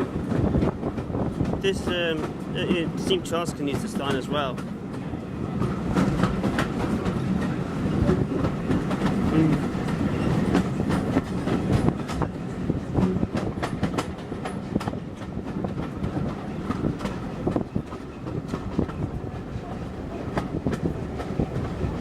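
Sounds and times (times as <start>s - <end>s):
train low rumble: 0.0s - 22.0s
wheels clicking on rails: 0.0s - 22.0s.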